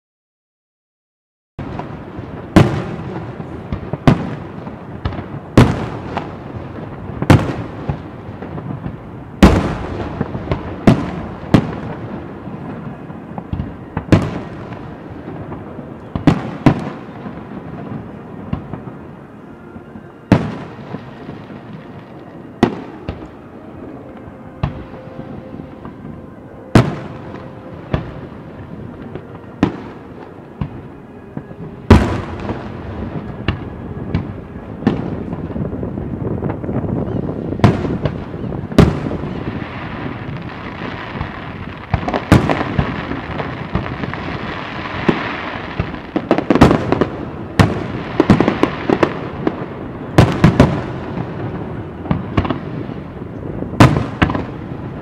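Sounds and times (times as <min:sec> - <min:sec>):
rumble of smaller firework bursts: 0:01.6 - 0:55.0.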